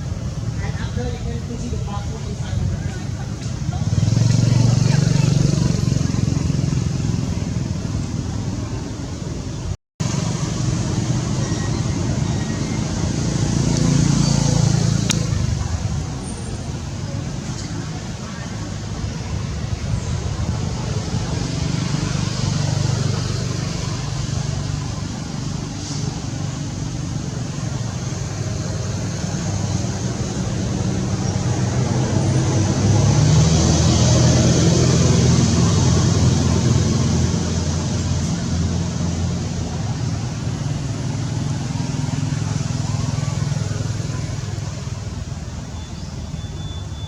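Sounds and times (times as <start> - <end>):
traffic engines humming: 0.0 - 47.0
vehicle passing close: 0.0 - 47.0.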